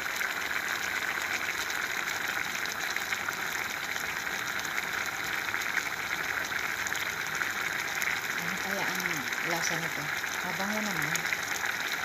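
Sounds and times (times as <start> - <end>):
pot boiling with crackling pops: 0.0 - 12.0.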